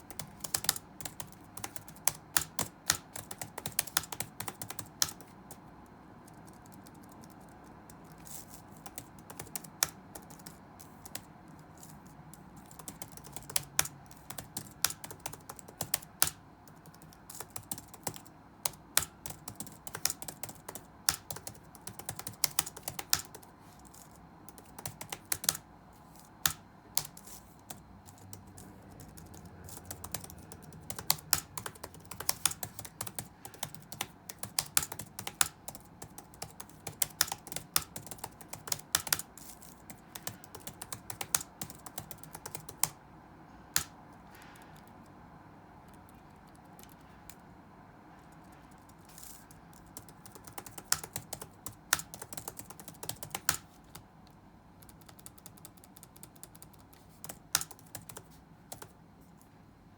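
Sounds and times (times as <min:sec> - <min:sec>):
keyboard typing: 0:00.0 - 0:45.2, 0:45.8 - 0:47.5, 0:48.1 - 0:54.1, 0:54.8 - 0:59.0
faint room noise: 0:00.0 - 0:59.9.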